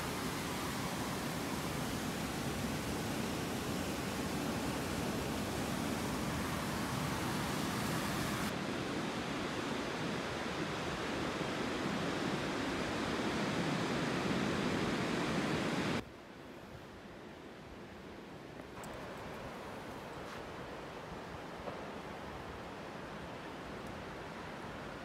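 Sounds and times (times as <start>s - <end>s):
ocean surf on beach: 0.0s - 16.0s, 18.8s - 25.0s.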